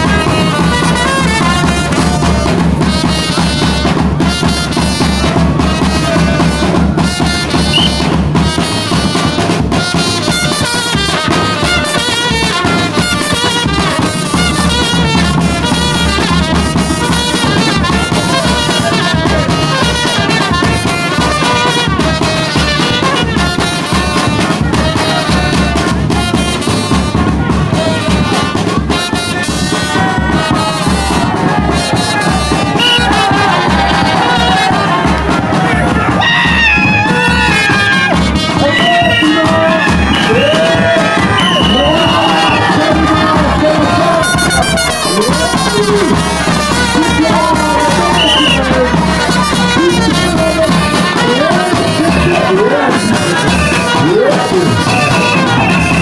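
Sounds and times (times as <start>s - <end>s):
brass horns: 0.0s - 56.0s
steady drum beat: 0.0s - 56.0s.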